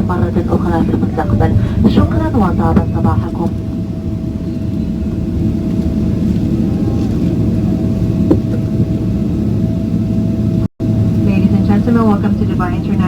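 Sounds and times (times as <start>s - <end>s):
low cabin rumble: 0.0s - 13.0s.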